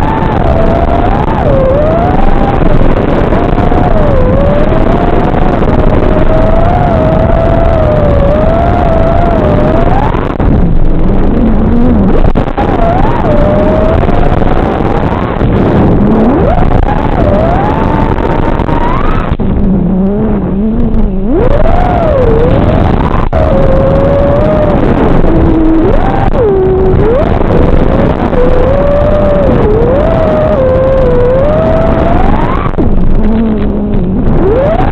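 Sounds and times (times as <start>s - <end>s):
steady rush of noise: 0.0s - 34.9s.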